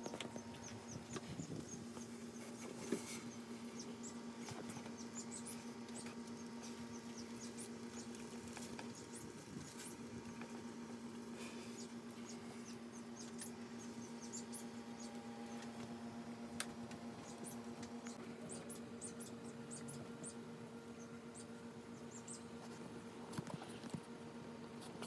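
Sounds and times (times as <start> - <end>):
small birds chirping: 0.0 - 23.8
steady low hum: 0.0 - 25.0.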